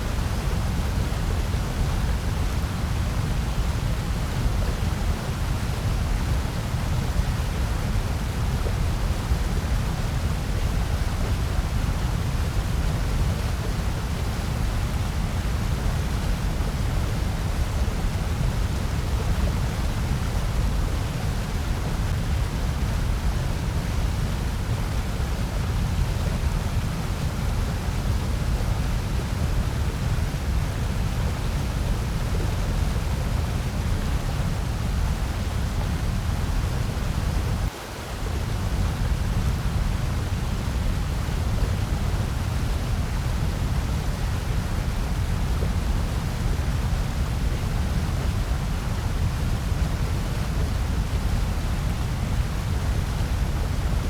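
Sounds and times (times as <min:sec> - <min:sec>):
bass-heavy white noise hiss: 0:00.0 - 0:54.0.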